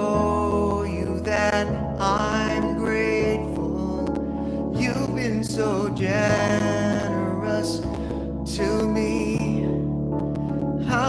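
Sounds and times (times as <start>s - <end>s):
man singing worship song: 0.0s - 9.9s, 10.8s - 11.0s
keyboard chords: 0.0s - 11.0s.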